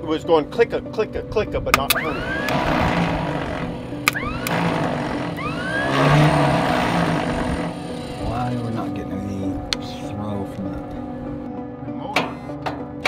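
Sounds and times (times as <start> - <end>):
background music with gliding notes: 0.0 - 13.0.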